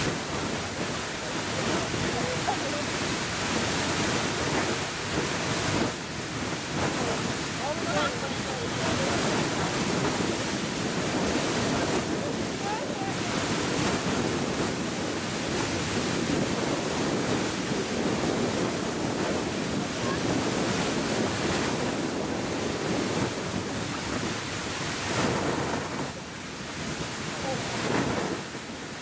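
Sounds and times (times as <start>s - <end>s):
geyser water and steam jetting: 0.0s - 29.0s.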